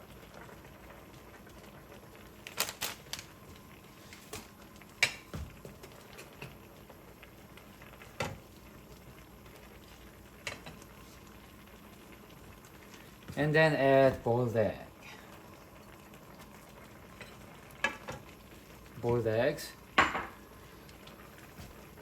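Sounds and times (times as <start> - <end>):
broth boiling in a pot: 0.0 - 22.0.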